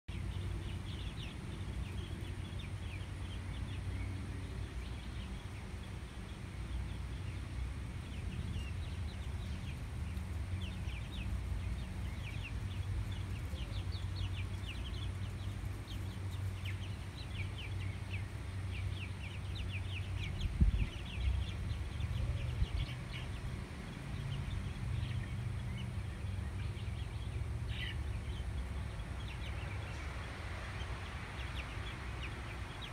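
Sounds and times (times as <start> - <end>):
chickens clucking: 0.3 - 32.9.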